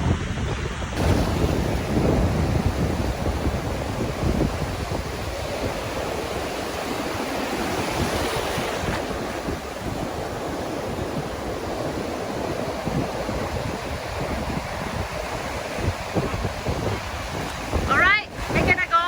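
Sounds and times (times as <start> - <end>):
ocean surf washing on beach: 0.0 - 19.0
wind buffeting microphone: 0.0 - 19.0.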